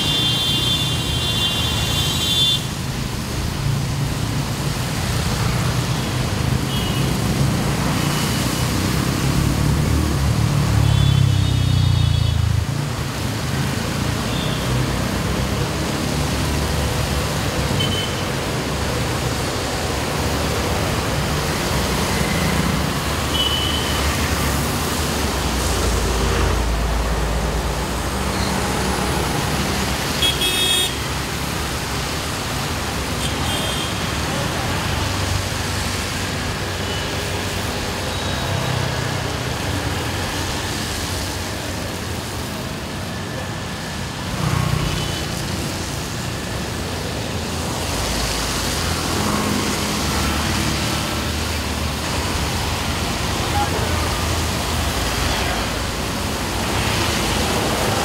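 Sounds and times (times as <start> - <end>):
tyres hissing through water: 0.0 - 58.0.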